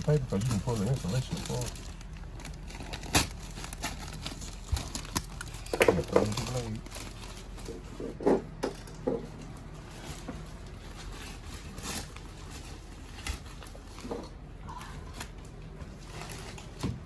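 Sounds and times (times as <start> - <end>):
insulation rustling and scraping: 0.0 - 17.0.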